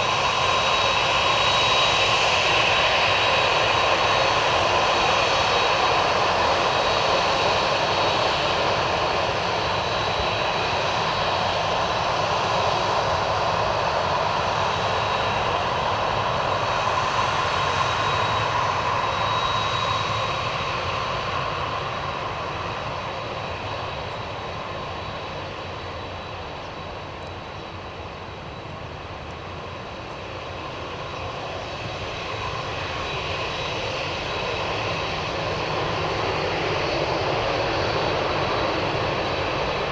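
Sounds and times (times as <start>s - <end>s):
jet engines whining and roaring: 0.0s - 39.9s.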